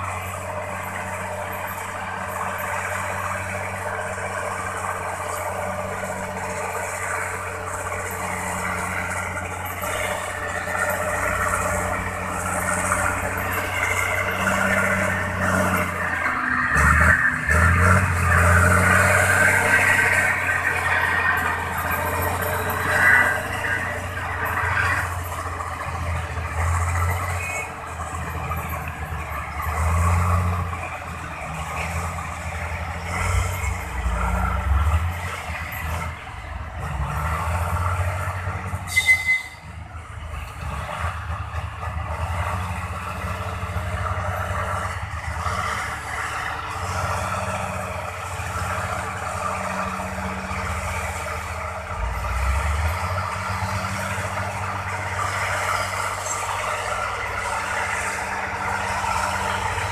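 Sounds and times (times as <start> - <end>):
heavy engine rumble: 0.0 - 59.9.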